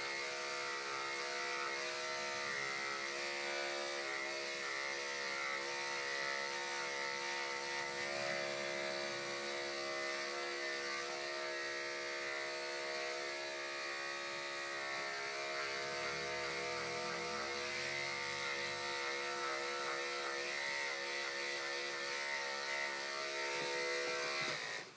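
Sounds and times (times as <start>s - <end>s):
electric clippers humming: 0.0s - 24.9s.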